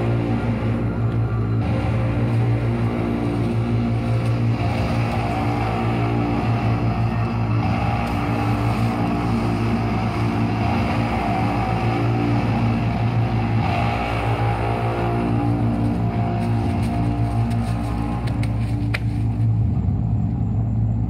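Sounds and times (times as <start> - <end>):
low sustained music drone: 0.0 - 21.0.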